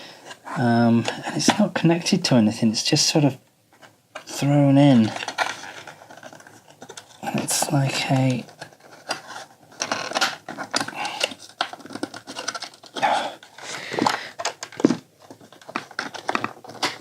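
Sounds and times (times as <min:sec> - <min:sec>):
plastic parts clicking and creaking: 0:00.0 - 0:02.2, 0:03.0 - 0:17.0.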